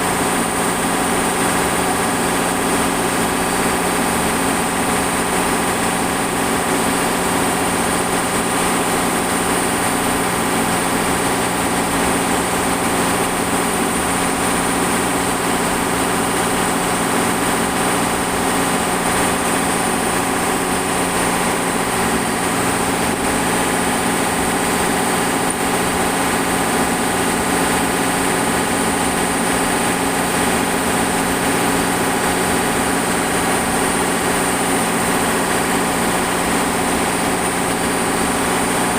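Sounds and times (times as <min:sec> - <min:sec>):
refrigeration machinery drone: 0:00.0 - 0:38.9.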